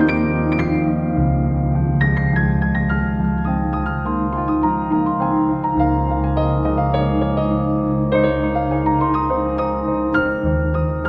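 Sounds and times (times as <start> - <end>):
held low bass: 0.0 - 11.0
soft piano music: 0.0 - 11.0.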